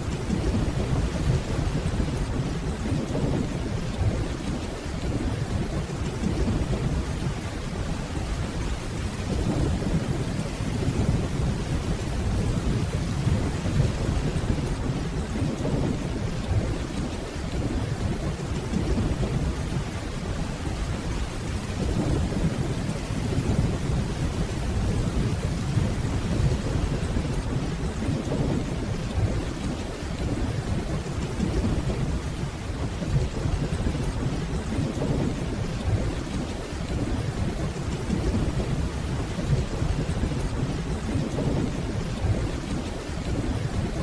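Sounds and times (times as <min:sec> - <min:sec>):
distant rolling thunder: 0:00.0 - 0:44.0
steady rainfall: 0:00.0 - 0:44.0.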